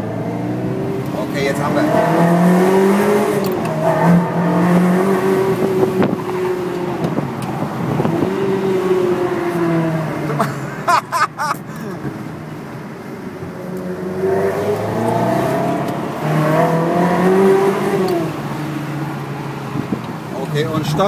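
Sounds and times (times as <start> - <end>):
car engine accelerating and shifting: 0.0 - 21.0.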